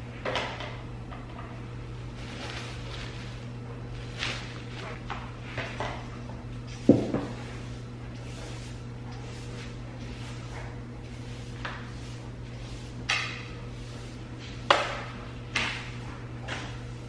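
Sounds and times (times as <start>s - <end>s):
steady low hum: 0.0s - 17.0s
broom sweeping tile floor: 2.0s - 16.9s.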